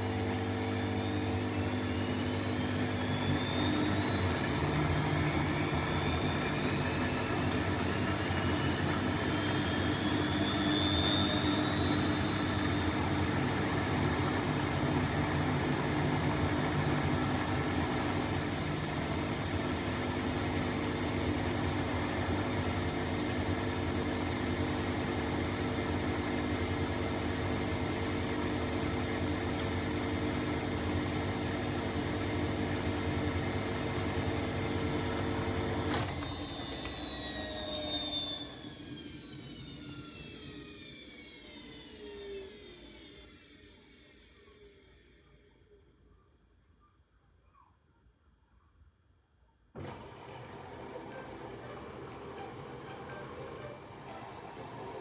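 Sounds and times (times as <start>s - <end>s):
washing machine spinning: 0.0s - 44.0s, 49.8s - 55.0s.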